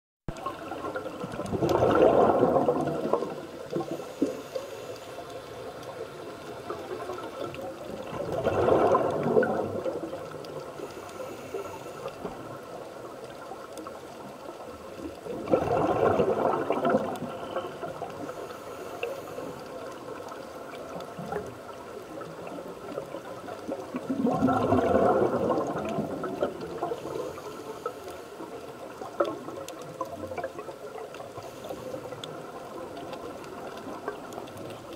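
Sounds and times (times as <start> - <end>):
exhaled bubbles gurgling: 0.3 - 34.9
faint steady hiss: 0.3 - 34.9.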